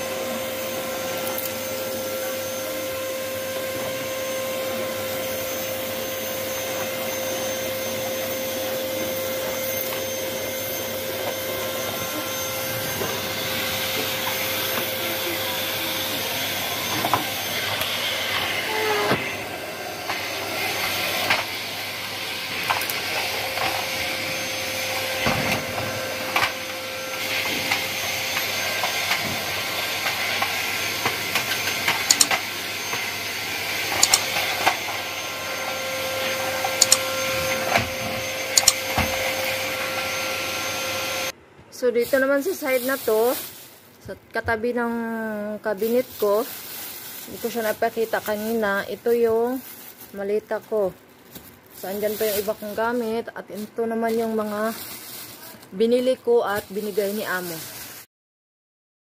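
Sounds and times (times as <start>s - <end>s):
vacuum cleaner motor whine: 0.0s - 43.7s, 44.4s - 58.1s
vacuum brush on rug and tiles: 0.0s - 58.1s.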